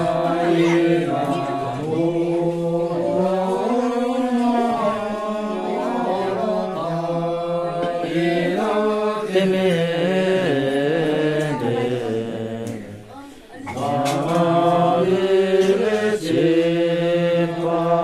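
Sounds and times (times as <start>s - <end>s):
voices chanting together: 0.0s - 18.0s.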